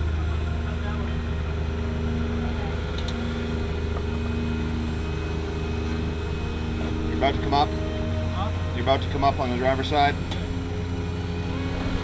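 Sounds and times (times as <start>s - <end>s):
car engine idling low: 0.0s - 12.0s.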